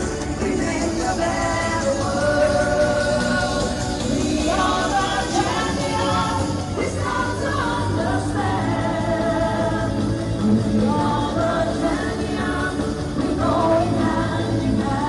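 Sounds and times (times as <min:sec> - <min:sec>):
live band playing pop: 0:00.0 - 0:15.0
person singing: 0:00.0 - 0:15.0.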